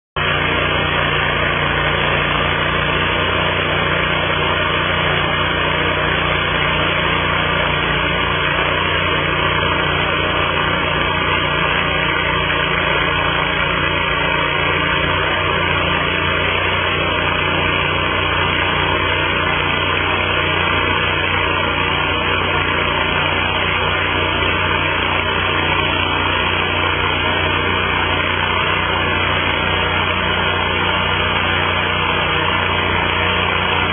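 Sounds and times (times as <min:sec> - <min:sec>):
chainsaw mill engine running: 0:00.2 - 0:33.9.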